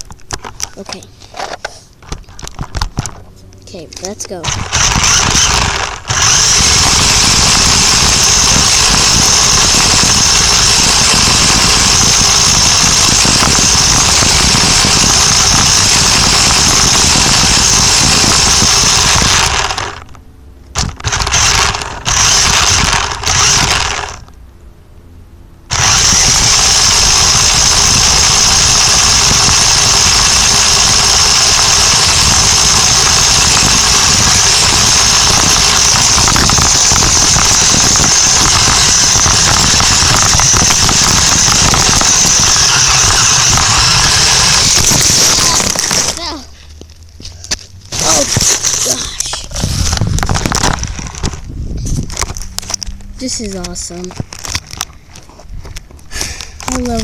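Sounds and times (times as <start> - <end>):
rc truck motor whining: 0.0 - 24.4, 25.7 - 55.0.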